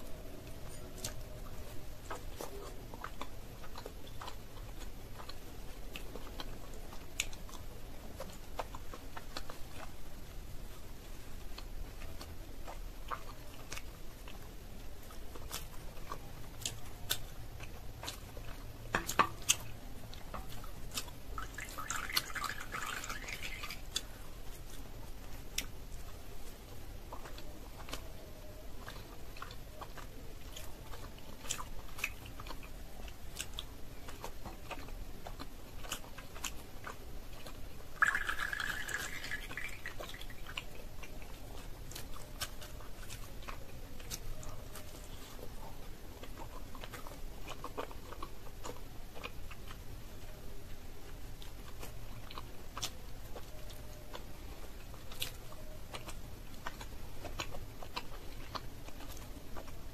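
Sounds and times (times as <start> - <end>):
wet chewing sounds: 0.0 - 59.9.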